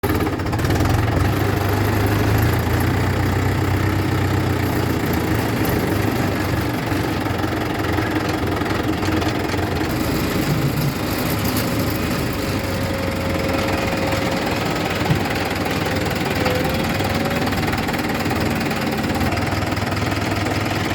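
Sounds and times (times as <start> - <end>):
heavy machinery diesel engine running: 0.0 - 20.9.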